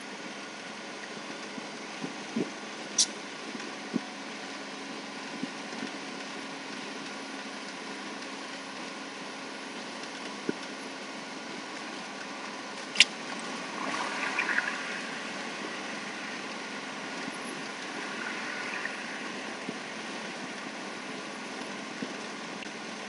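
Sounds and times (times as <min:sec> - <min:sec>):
road and engine noise in cab: 0:00.0 - 0:23.0.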